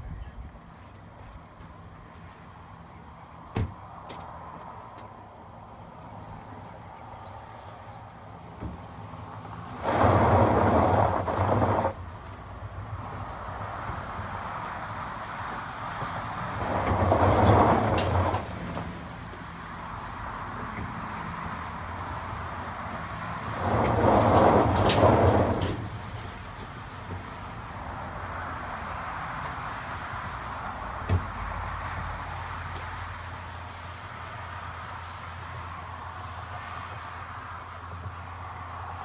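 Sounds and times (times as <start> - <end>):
truck engine idling and revving: 0.6 - 39.0.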